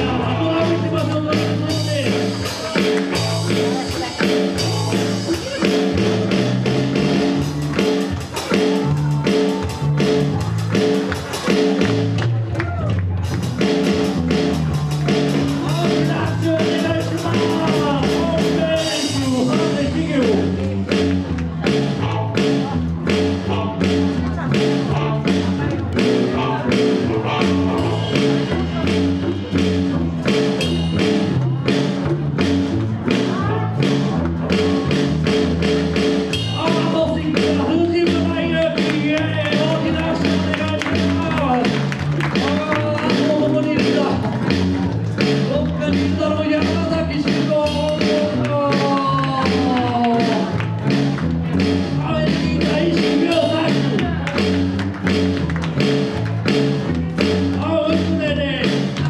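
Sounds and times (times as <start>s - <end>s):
electric bass: 0.0s - 59.0s
live band music through speakers: 0.0s - 59.0s
steady drum beat: 0.0s - 59.0s.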